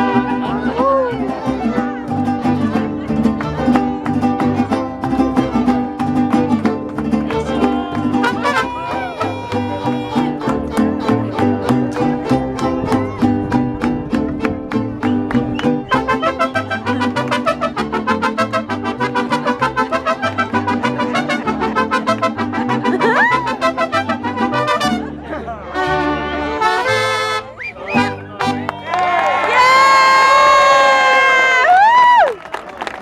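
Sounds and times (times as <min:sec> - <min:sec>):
steady bass line: 0:00.0 - 0:28.7
strummed guitars: 0:00.0 - 0:28.8.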